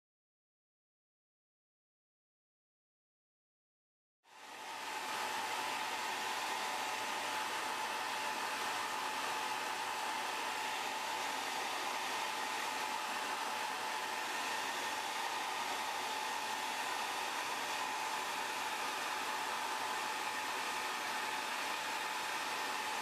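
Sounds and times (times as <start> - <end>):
hair dryer running: 4.3 - 23.0.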